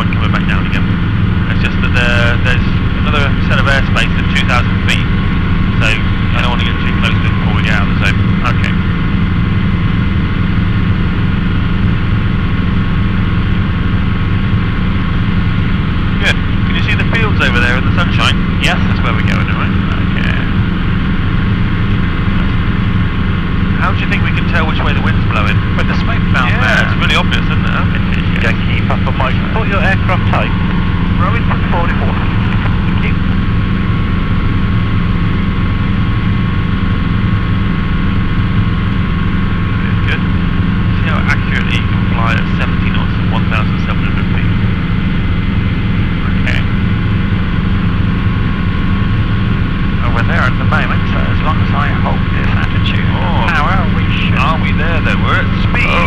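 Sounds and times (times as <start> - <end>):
faint steady whine: 0.0 - 56.0
helicopter engine and rotors droning: 0.0 - 56.0.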